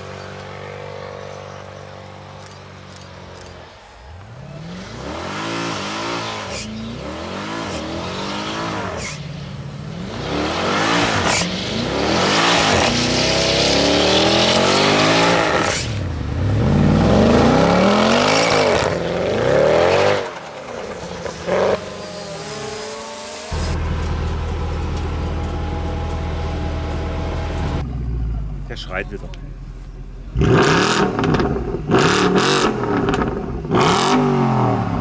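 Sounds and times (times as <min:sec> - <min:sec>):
car engine revving: 0:04.2 - 0:28.8, 0:30.1 - 0:35.0.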